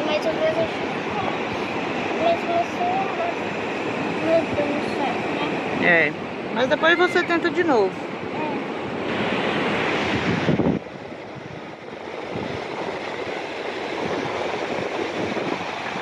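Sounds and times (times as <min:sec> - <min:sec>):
ocean surf on shore: 0:00.0 - 0:16.0
wind on microphone: 0:00.0 - 0:16.0.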